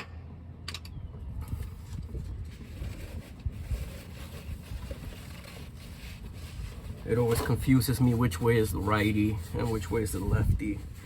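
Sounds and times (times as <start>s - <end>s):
wind rumbling on microphone: 0.7s - 11.0s.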